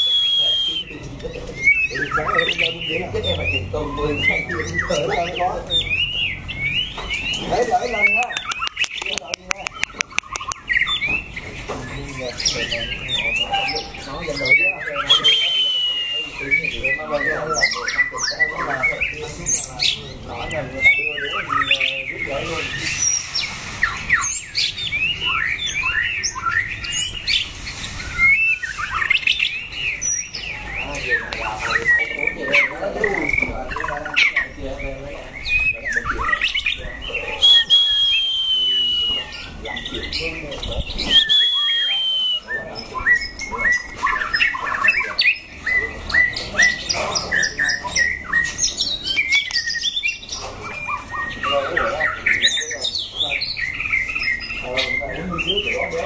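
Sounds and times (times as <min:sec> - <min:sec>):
birds whistling and chirping: 0:00.0 - 0:56.0.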